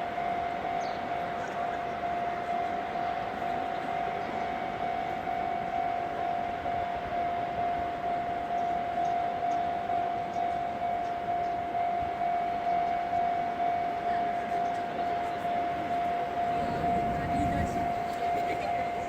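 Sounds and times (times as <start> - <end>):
level crossing warning bell: 0.0 - 19.0
passing train: 0.0 - 19.0.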